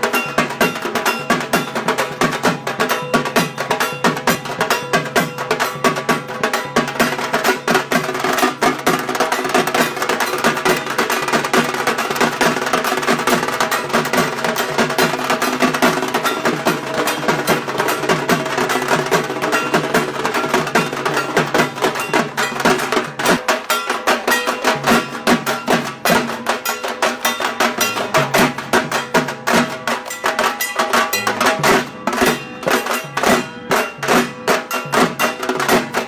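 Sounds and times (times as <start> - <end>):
drums beaten in fast rhythm: 0.0 - 36.0.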